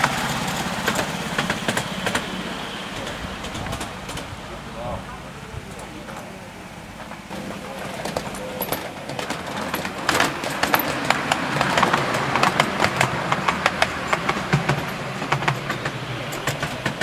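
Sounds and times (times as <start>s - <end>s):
miniature train wheels clacking: 0.0s - 17.0s
train running hum: 0.0s - 17.0s.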